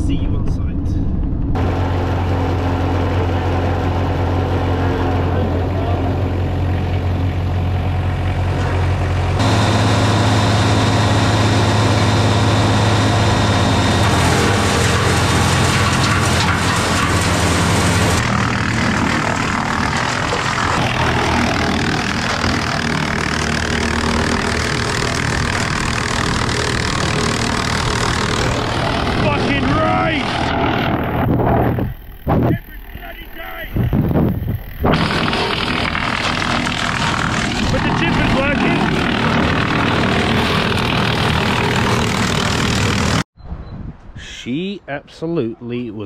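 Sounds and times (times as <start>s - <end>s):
wood chipper running: 1.6s - 43.3s.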